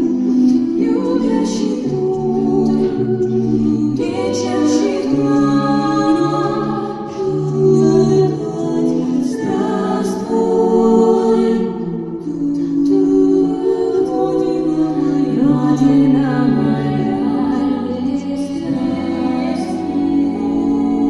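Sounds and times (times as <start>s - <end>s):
a cappella vocal ensemble singing: 0.0s - 21.0s.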